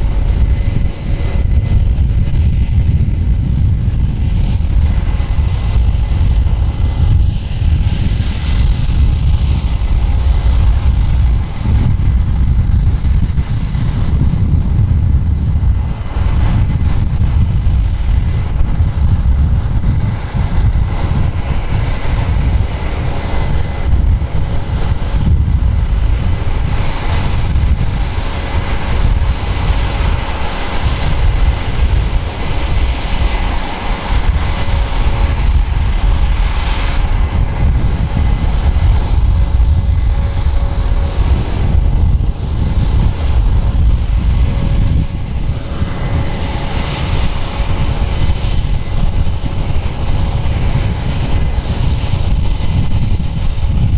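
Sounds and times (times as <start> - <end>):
jet engine idling: 0.0 - 53.9.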